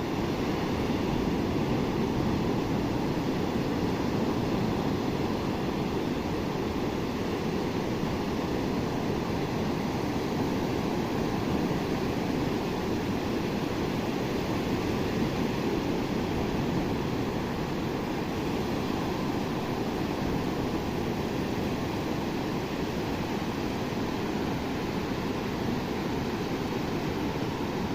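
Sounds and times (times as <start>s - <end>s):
sea surf washing onto beach: 0.0s - 27.9s.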